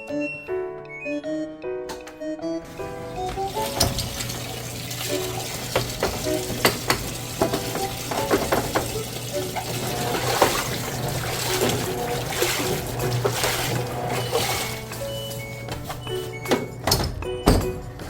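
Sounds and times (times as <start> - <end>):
light background music: 0.0 - 18.0.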